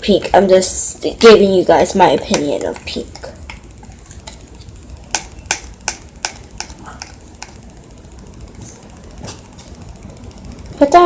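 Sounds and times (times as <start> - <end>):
sharp light clicks: 0.0 - 11.0.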